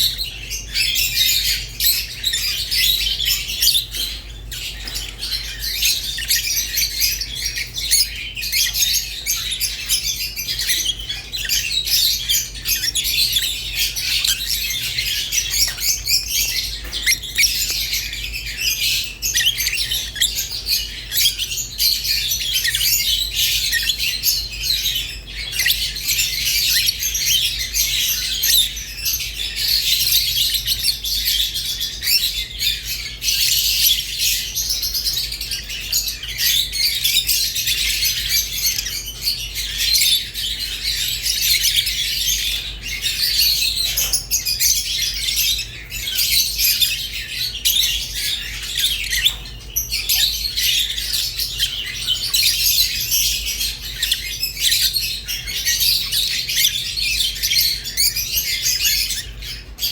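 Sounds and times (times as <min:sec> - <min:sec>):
parrots chirping and chattering: 0:00.0 - 0:59.9.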